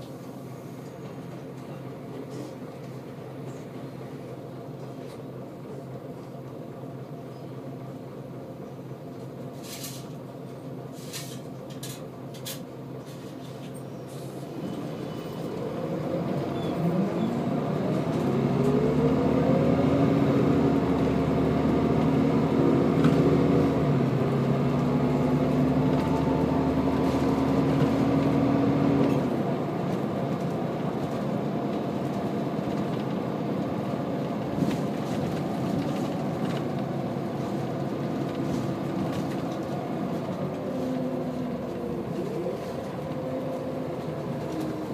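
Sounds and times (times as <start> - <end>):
bus engine accelerating: 0.0 - 44.9.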